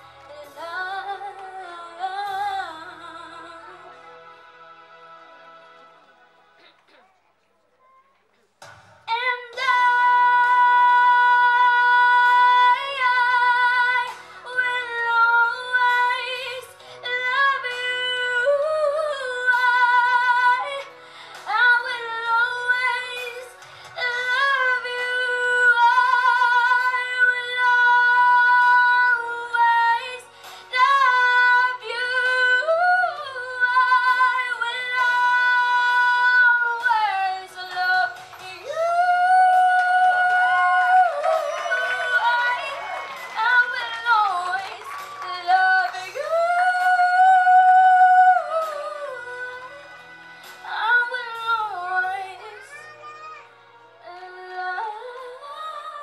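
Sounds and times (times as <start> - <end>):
karaoke backing track: 0.0 - 7.1, 8.6 - 56.0
girl singing into a microphone: 0.3 - 3.9, 9.1 - 49.9, 50.6 - 53.4, 54.0 - 56.0.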